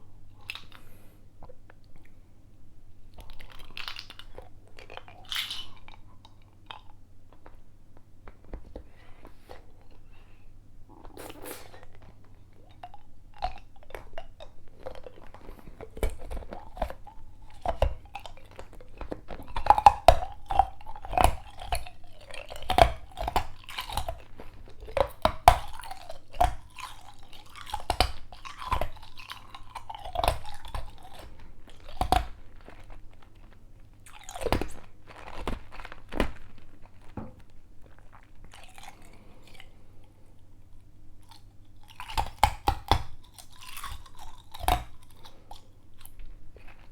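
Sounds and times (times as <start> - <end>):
ice crunching while chewed: 0.0 - 2.2, 3.0 - 46.9.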